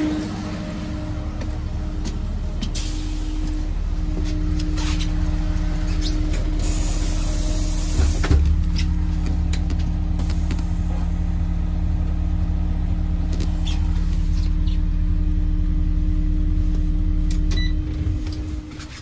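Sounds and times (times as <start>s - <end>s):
bus engine idling: 0.0s - 19.0s
engine shutting off: 0.0s - 19.0s.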